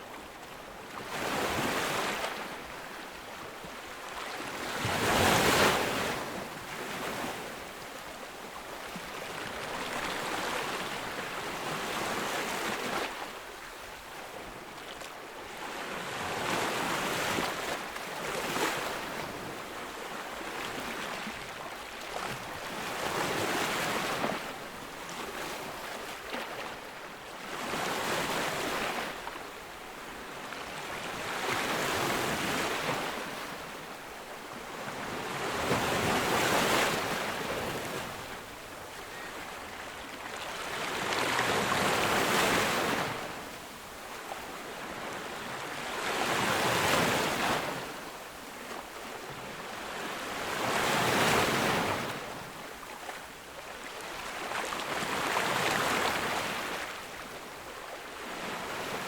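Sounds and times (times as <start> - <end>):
sea waves breaking on a beach: 0.0 - 59.0.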